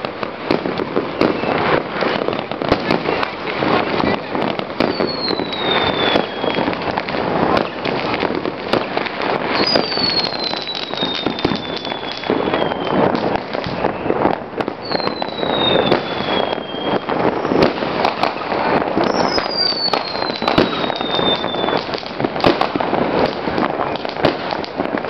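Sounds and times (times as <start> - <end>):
firecracker bangs and crackling: 0.0 - 25.0
whistling fireworks: 0.0 - 25.0.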